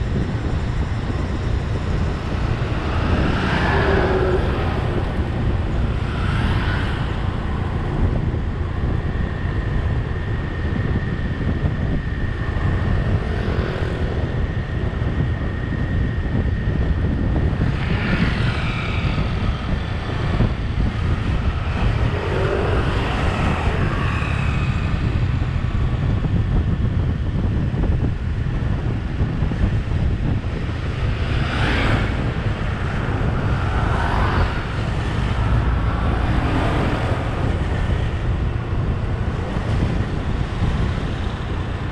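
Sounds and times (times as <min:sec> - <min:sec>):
passing traffic: 0:00.0 - 0:41.9
vehicle road and engine rumble: 0:00.0 - 0:41.9.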